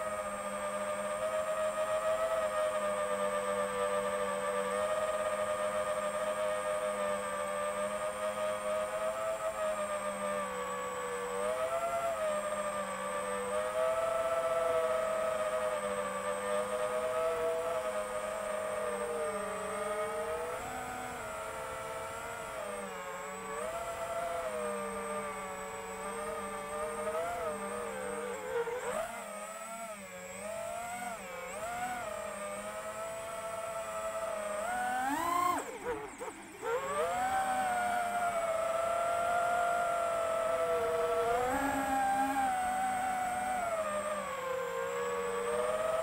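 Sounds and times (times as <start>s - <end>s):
drone motors whining: 0.0s - 46.0s.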